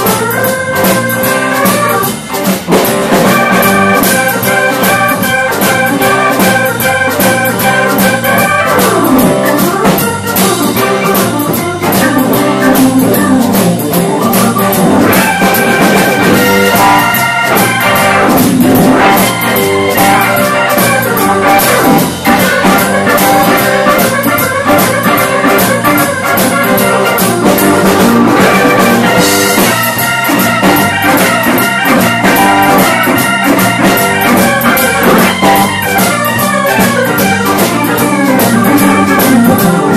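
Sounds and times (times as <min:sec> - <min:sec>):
drum kit beat: 0:00.0 - 0:39.9
live rock band instrumental: 0:00.0 - 0:39.9.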